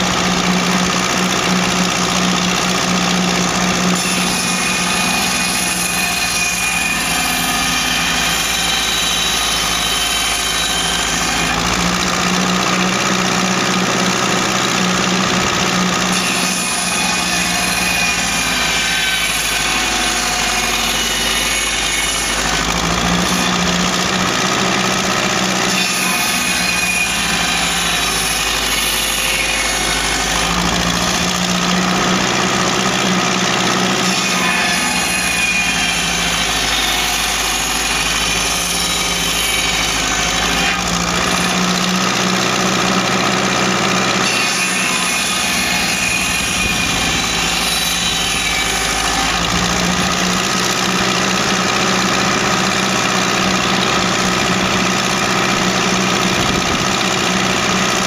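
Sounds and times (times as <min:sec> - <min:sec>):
saw blade cutting logs: 0:00.0 - 0:58.0
tractor engine running: 0:00.0 - 0:58.0.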